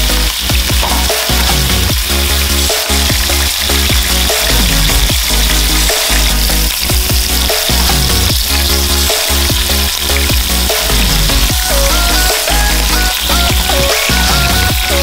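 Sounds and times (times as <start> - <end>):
music with heavy bass beat: 0.0 - 15.0
seafood sizzling in frying pan: 0.0 - 15.0.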